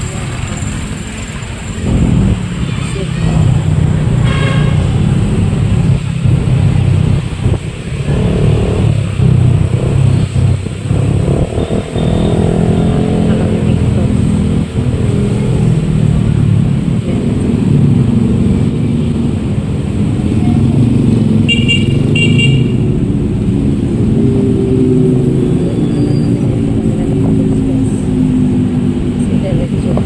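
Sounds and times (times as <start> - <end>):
road and wind noise: 0.0 - 30.0
vehicles passing: 0.0 - 30.0.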